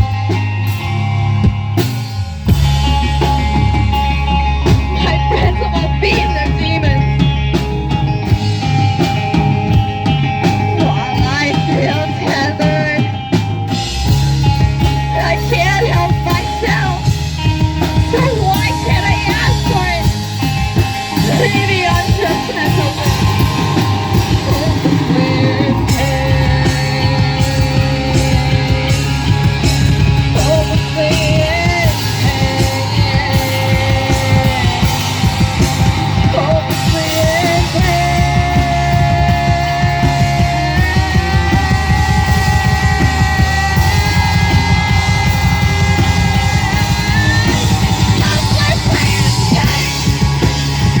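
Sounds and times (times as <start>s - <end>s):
bass: 0.0s - 51.0s
drums: 0.0s - 51.0s
rock band playing live: 0.0s - 51.0s.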